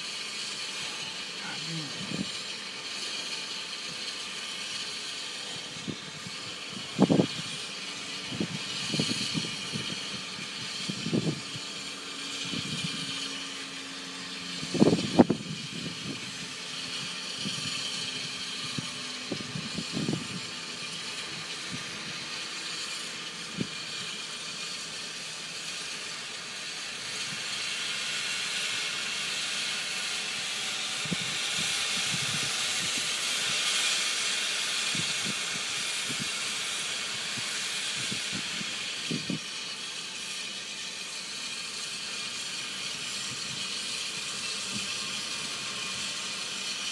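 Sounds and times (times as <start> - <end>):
steam locomotive hissing steam: 0.0 - 46.9.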